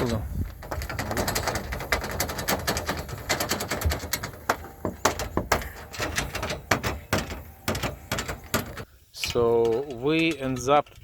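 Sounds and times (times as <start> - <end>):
metal frame parts clicking and clattering: 0.0 - 11.0.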